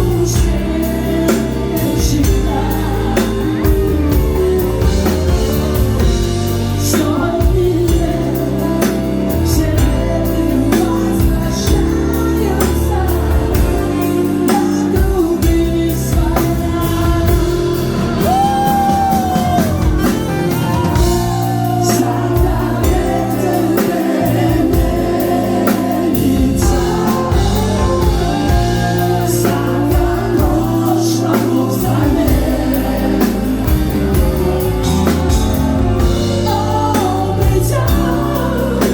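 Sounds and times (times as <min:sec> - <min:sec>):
bass: 0:00.0 - 0:38.9
drums: 0:00.0 - 0:38.9
woman singing: 0:00.0 - 0:38.9.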